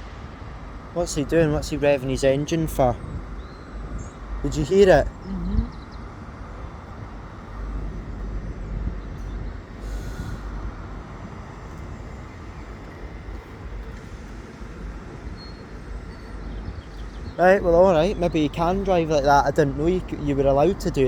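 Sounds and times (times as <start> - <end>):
diesel train engine rumbling: 0.0 - 21.0.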